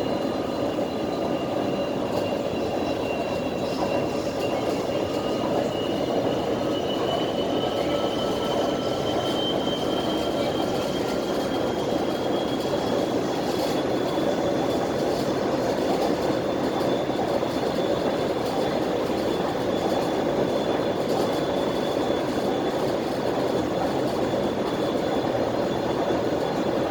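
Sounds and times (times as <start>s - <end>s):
train car rumble: 0.0s - 26.9s.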